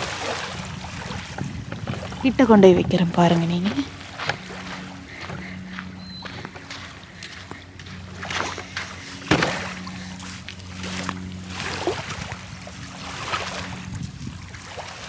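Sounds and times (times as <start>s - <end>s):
low steady hum: 0.0s - 15.0s
small waves lapping: 0.0s - 15.0s.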